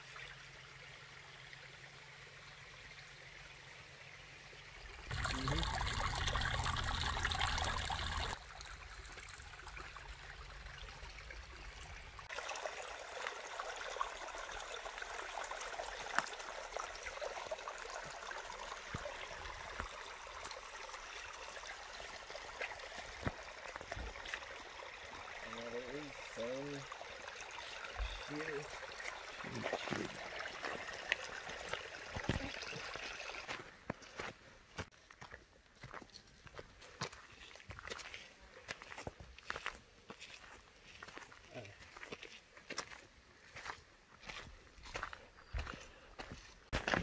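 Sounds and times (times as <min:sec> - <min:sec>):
creek trickling over rocks: 0:00.0 - 0:47.0.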